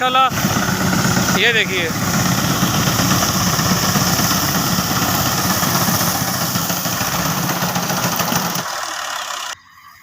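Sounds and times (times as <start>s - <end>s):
reaper cutting crop: 0.0s - 9.6s
tractor diesel engine running: 0.0s - 10.0s.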